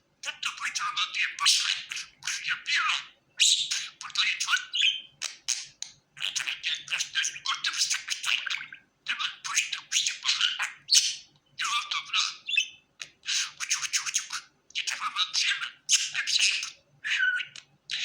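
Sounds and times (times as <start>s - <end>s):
budgerigar chattering: 0.2s - 18.0s.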